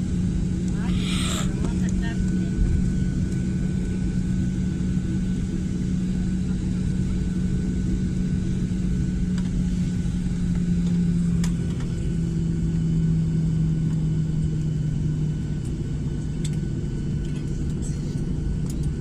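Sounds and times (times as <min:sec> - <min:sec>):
airliner engines droning: 0:00.0 - 0:19.0.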